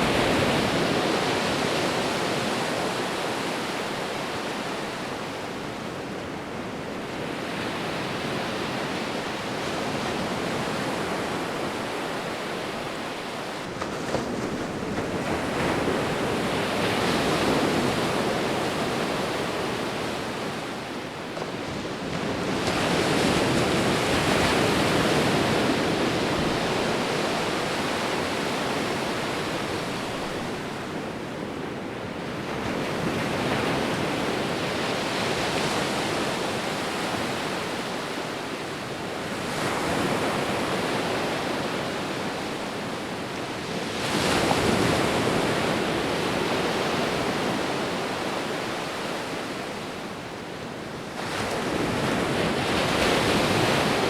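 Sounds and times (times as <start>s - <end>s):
sea waves surf: 0.0s - 54.0s.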